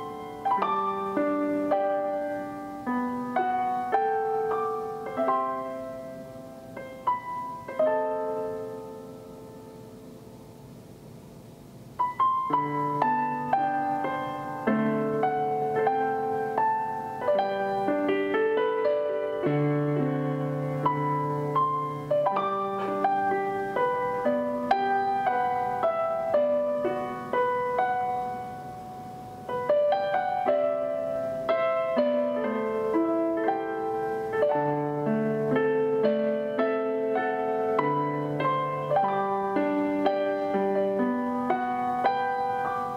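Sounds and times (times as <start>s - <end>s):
gentle piano music: 0.0s - 42.9s.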